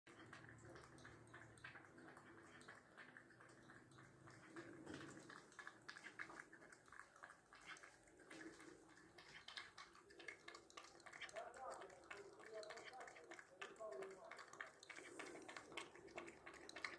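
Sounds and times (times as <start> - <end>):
cat lapping milk: 0.1 - 16.9.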